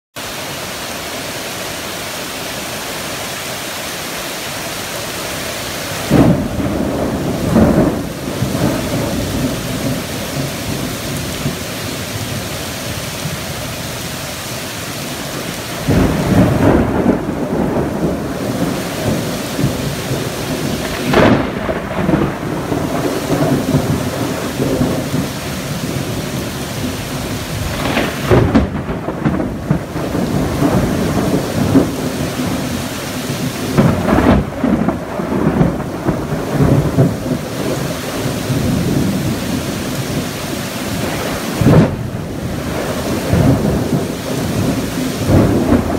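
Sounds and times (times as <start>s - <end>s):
heavy rain: 0.1s - 45.9s
thunder rumbling: 5.9s - 45.9s.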